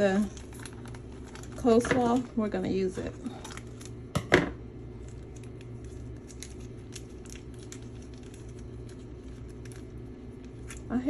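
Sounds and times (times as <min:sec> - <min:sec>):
plastic packet crinkling: 0:00.0 - 0:02.4, 0:03.2 - 0:04.1, 0:04.9 - 0:11.0
steady low hum: 0:00.0 - 0:11.0.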